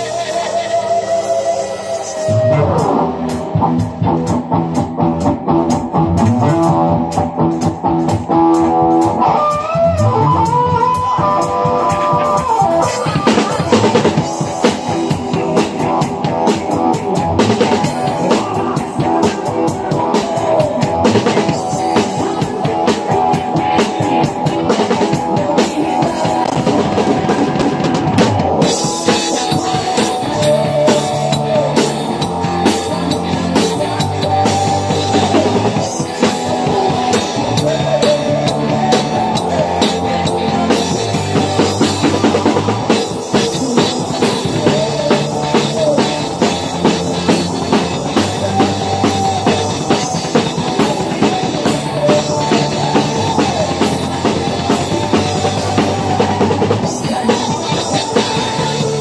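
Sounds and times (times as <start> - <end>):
drum kit playing a rock beat: 0.0 - 59.0
recorded rock song: 0.0 - 59.0.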